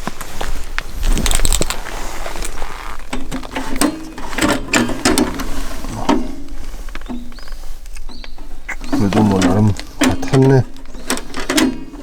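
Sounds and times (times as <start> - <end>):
metal parts clicking and rattling: 0.4 - 12.0.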